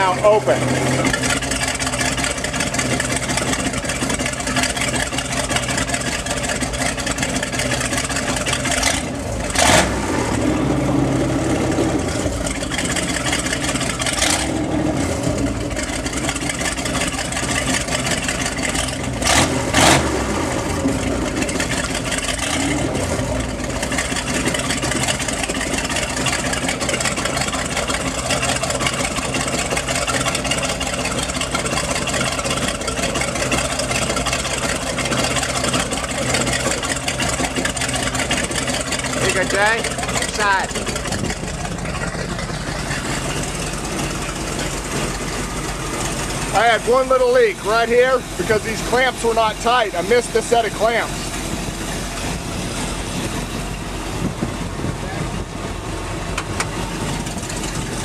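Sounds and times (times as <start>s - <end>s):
boat engine rumbling: 0.0s - 58.0s
exhaust and water blowing out: 0.0s - 58.0s.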